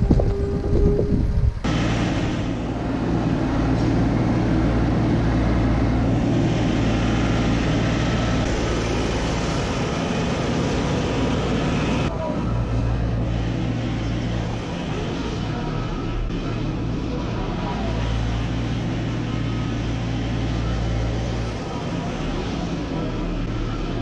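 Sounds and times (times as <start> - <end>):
loader engine running: 0.0 - 24.0.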